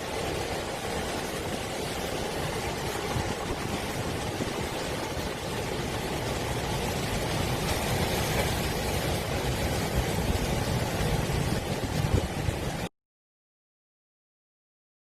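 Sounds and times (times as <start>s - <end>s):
heavy waves breaking: 0.0s - 12.9s
wind roaring: 0.0s - 12.9s.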